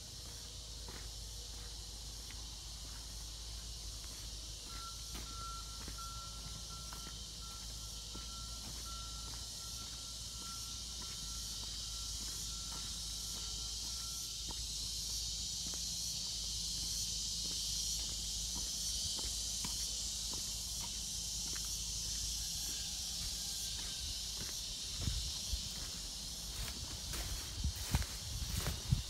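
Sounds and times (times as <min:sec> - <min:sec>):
insects chorus buzzing: 0:00.0 - 0:29.0.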